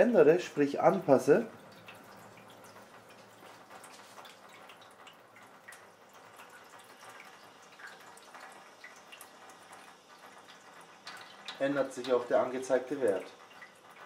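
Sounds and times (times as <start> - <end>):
faint water running into sink: 0.0 - 14.0
water drips and splashes: 0.0 - 14.0.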